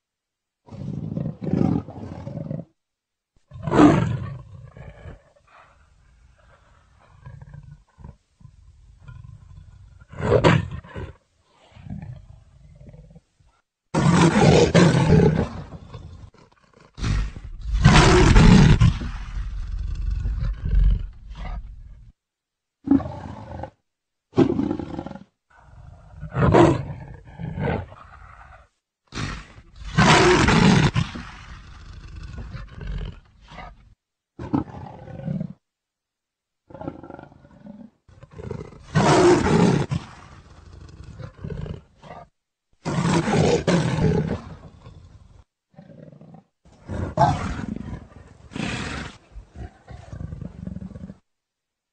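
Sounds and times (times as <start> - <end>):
leopard roaring: 3.5 - 13.2, 13.9 - 22.1, 22.8 - 33.8, 36.7 - 51.2.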